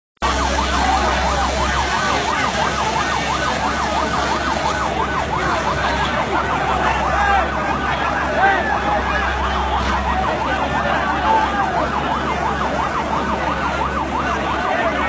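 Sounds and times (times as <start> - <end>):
crowd noise: 0.2 - 15.0
emergency siren yelping: 0.2 - 15.0.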